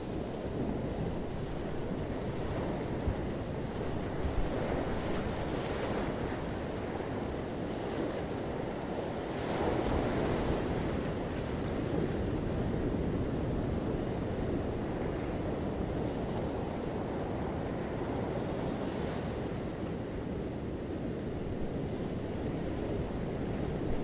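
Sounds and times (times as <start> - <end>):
waves washing on a beach: 0.0 - 24.0.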